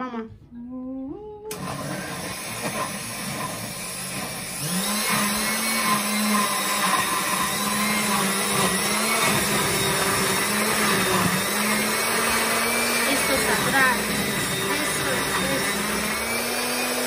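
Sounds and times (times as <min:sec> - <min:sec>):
blender motor churning: 0:01.5 - 0:17.0.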